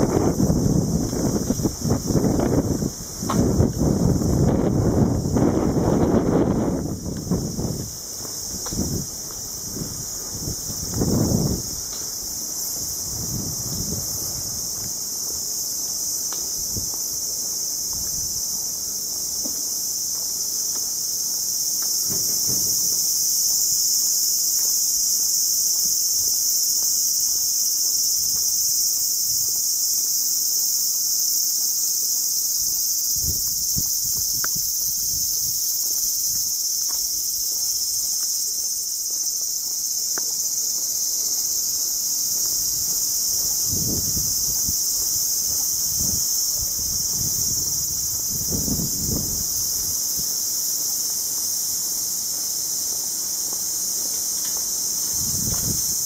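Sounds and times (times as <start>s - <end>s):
cicadas singing: 0.0s - 56.0s.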